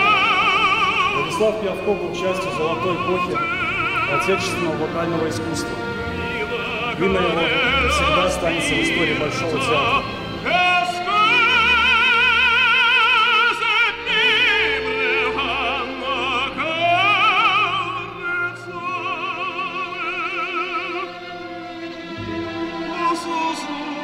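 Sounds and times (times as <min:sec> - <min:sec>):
operatic singing: 0:00.0 - 0:24.0
orchestra playing: 0:00.0 - 0:24.0.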